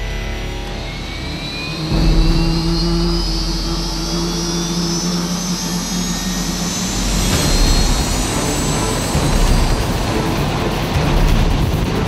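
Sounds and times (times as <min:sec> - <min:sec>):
helicopter turbine hum and whine: 0:00.0 - 0:12.0
main rotor beat: 0:00.8 - 0:12.0.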